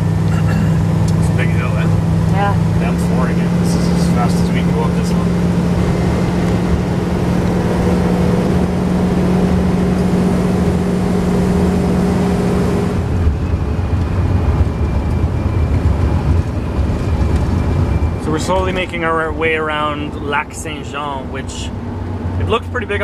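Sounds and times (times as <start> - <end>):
held hum: 0.0 - 22.6
rough road rumble: 0.0 - 23.0
van engine droning: 0.0 - 23.0.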